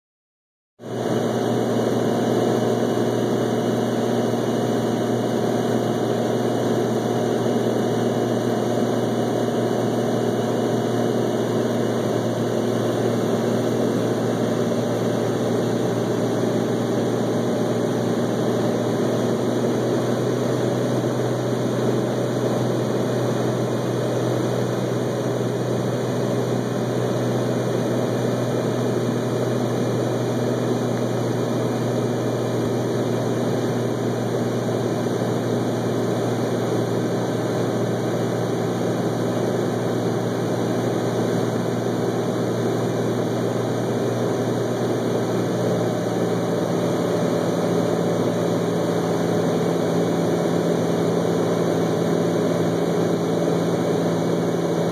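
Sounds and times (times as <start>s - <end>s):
plane engine droning in flight: 0.8s - 54.9s.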